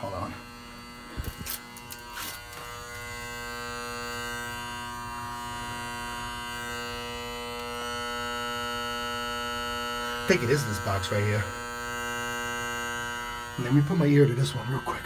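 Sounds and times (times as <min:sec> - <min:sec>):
heating control box buzzing: 0:00.0 - 0:15.0.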